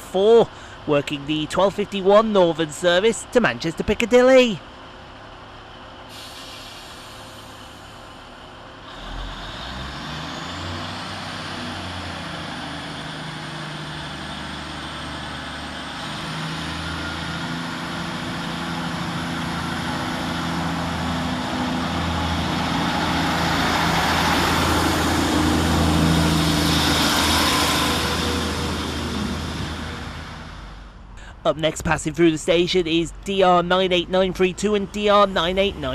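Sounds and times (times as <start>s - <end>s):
diesel train engine whine: 0.0s - 35.9s.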